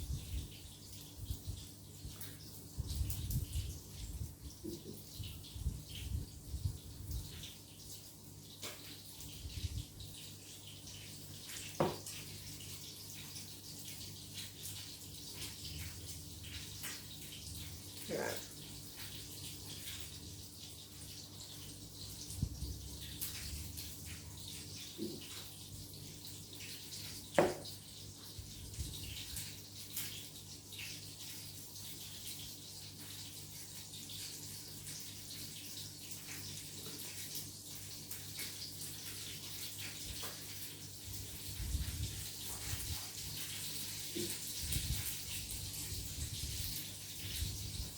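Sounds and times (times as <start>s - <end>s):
chicken sizzling in hot oil: 0.0s - 47.9s.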